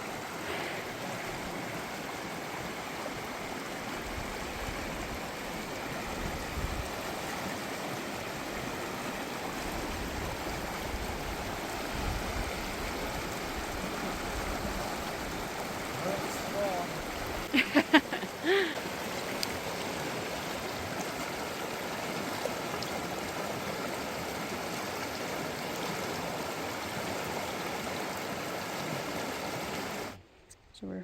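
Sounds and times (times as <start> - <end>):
creek rushing over rocks: 0.0 - 30.2.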